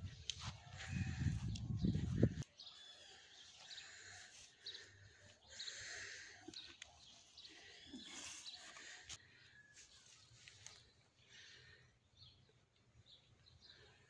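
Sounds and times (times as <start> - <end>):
birds chirping faintly: 0.2 - 14.0.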